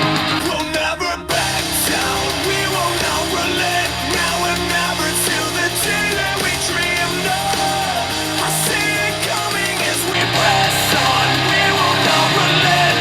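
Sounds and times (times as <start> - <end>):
rock song with singer on speaker: 0.0 - 13.0.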